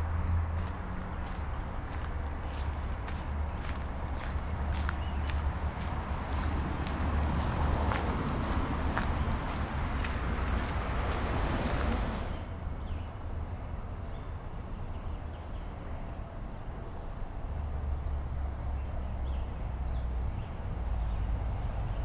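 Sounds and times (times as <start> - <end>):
distant road traffic rumble: 0.0 - 22.0.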